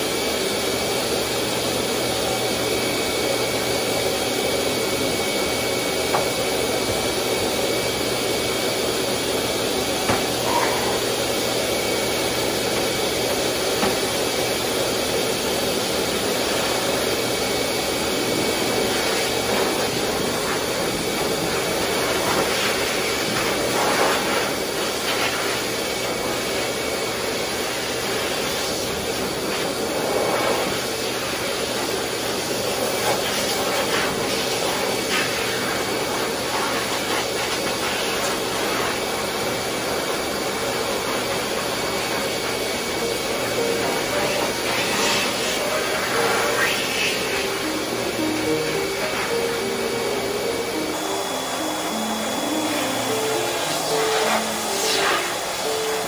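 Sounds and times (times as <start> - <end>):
blower motor whine: 0.0 - 56.0
pet dryer blowing air: 0.0 - 56.0.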